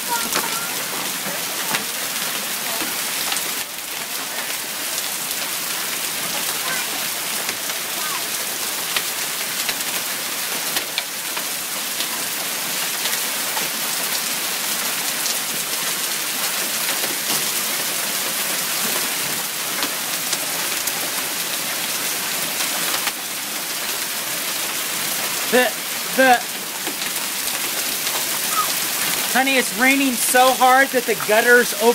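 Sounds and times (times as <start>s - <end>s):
hailstones striking: 0.0s - 31.9s
heavy rain hissing: 0.0s - 31.9s.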